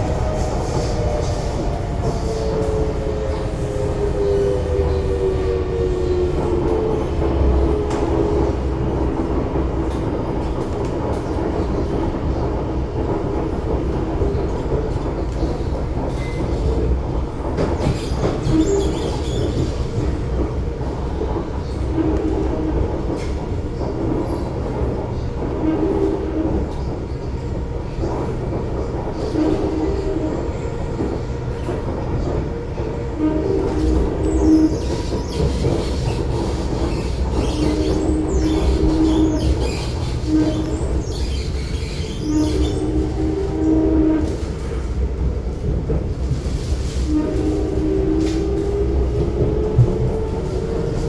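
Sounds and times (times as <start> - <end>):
rail clicks: 0.0 - 51.0
train wheels rumbling on rail: 0.0 - 51.0.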